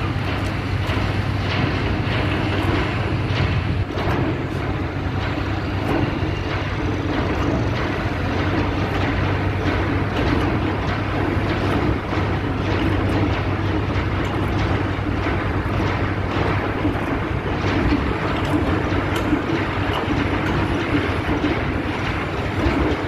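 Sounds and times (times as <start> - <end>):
anchor chain rattling: 0.0 - 23.0
steady low hum: 0.0 - 23.0.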